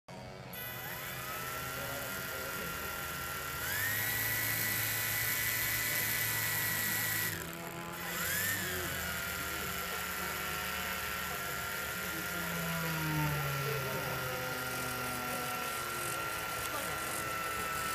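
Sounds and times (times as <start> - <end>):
model propeller motor whine: 0.1 - 17.9.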